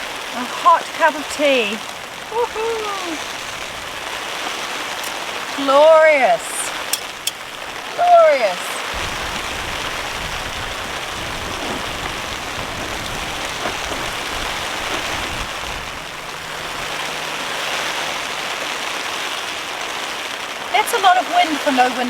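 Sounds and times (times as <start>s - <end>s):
gusting wind rumbling: 0.0s - 22.0s
heavy rain on a shelter: 0.0s - 22.0s.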